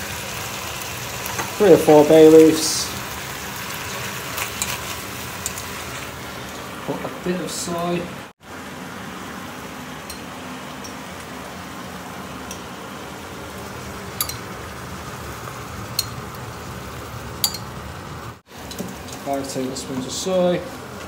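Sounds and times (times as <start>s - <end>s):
pork sizzling in a pan: 0.0s - 21.0s.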